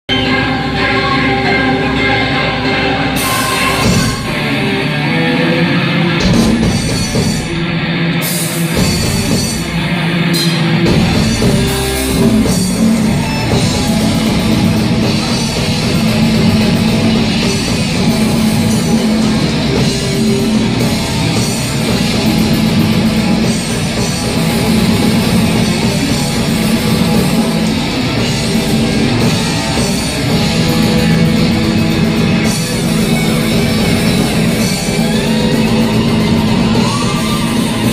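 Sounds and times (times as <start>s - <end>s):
heavy metal band playing: 0.1s - 37.9s.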